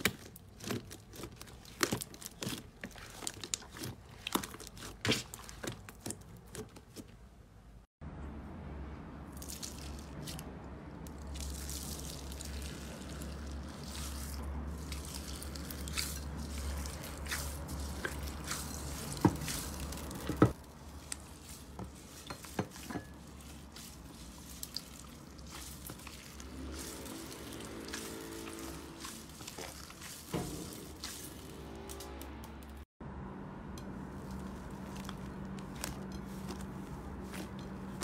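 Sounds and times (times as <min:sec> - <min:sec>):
slime squishing by hand: 0:00.0 - 0:07.5, 0:09.3 - 0:32.0, 0:34.1 - 0:38.0.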